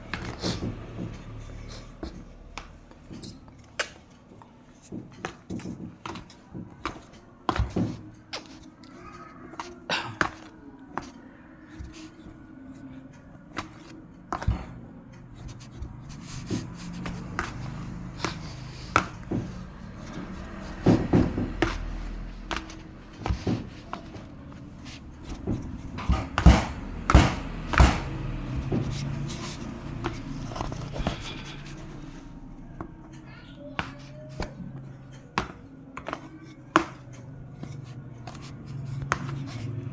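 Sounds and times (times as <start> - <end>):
tools scraping through flour: 4.7 - 32.4, 33.8 - 39.9.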